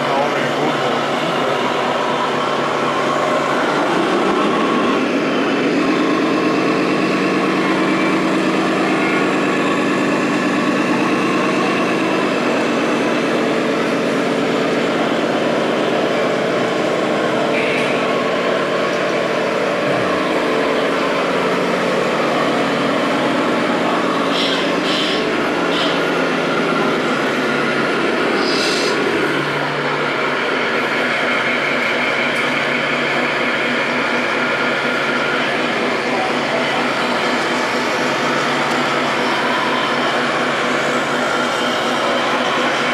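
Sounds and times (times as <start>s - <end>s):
hum of busy hall: 0.0s - 42.9s
simulated diesel engine sounds: 0.0s - 42.9s.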